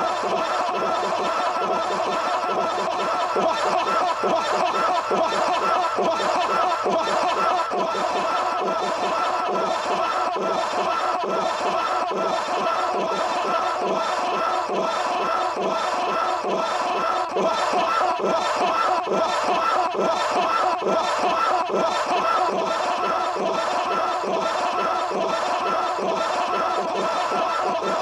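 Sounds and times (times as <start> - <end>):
laughter-like voices chattering: 0.0 - 28.0.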